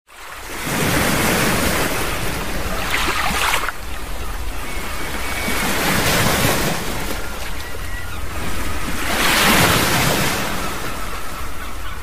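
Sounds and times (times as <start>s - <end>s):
ocean waves breaking: 0.1s - 12.0s.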